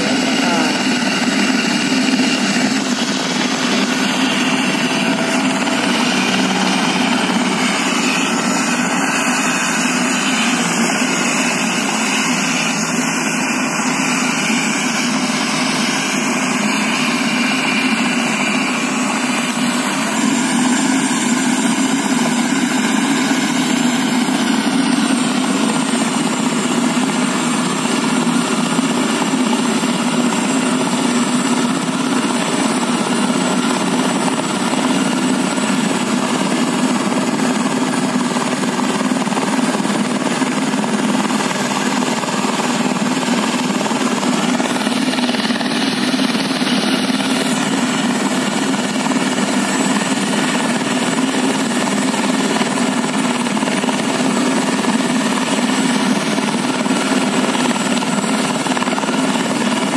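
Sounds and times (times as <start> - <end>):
helicopter engine and rotor running: 0.0 - 59.9.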